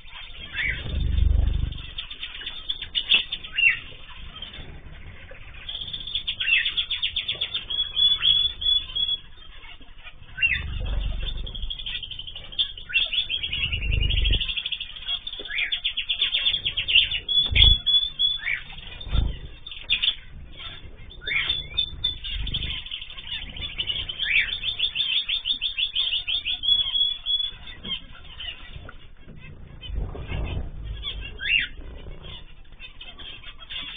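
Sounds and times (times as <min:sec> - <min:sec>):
small birds chirping and twittering: 0:00.0 - 0:33.9
wings flapping thumps: 0:00.3 - 0:26.6, 0:27.4 - 0:33.4.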